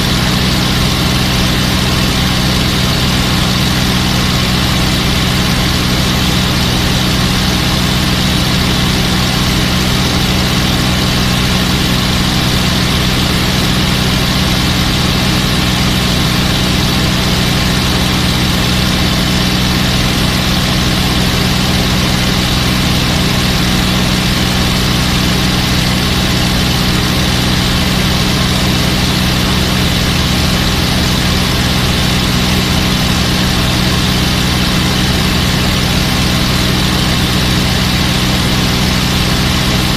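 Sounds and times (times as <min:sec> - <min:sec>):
piston engine and propeller: 0:00.0 - 0:39.9.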